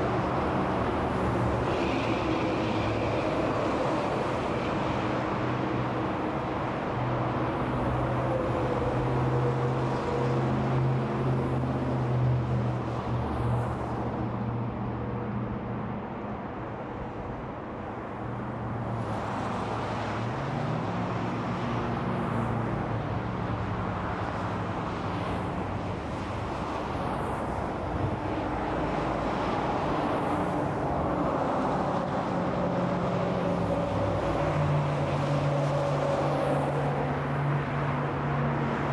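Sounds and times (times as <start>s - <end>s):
freeway traffic passing: 0.0s - 38.9s.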